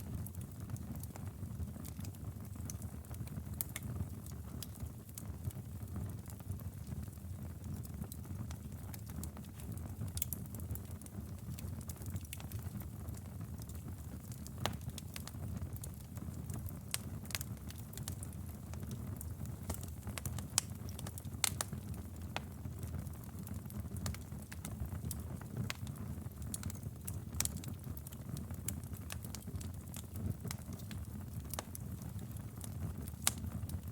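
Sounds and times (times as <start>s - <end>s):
burning wood crackling and popping: 0.0s - 33.9s
campfire flames rumbling: 0.0s - 33.9s.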